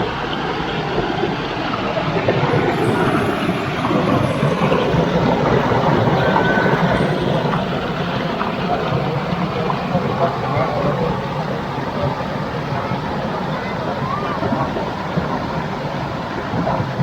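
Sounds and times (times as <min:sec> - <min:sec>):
waterfall rushing: 0:01.9 - 0:16.6.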